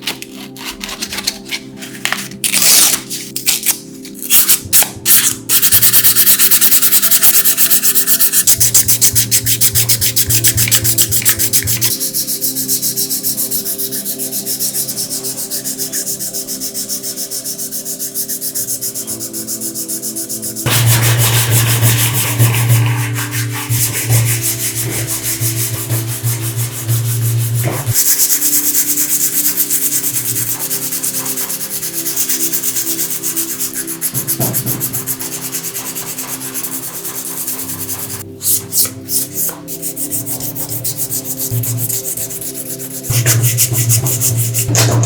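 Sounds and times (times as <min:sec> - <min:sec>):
sanding metal: 0:04.3 - 0:45.0.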